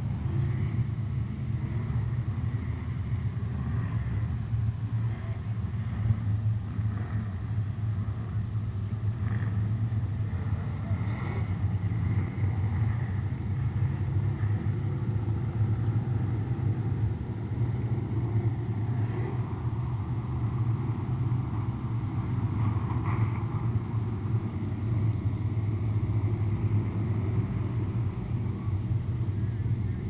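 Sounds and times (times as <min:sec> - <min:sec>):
race car engines droning: 0:00.0 - 0:30.0.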